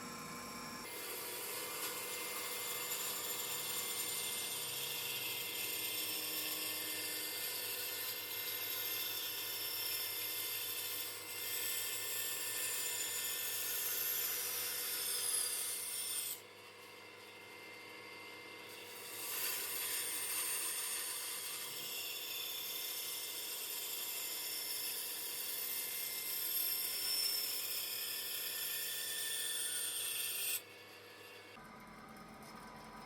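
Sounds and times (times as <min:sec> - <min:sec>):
power woodworking tool whining: 0:00.0 - 0:33.0.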